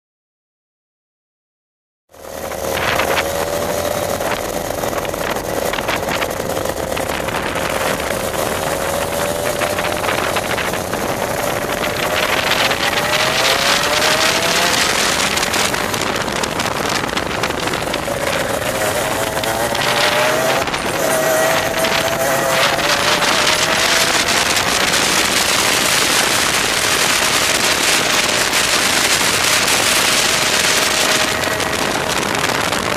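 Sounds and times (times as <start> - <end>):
racing kart two-stroke engine: 2.1 - 32.9.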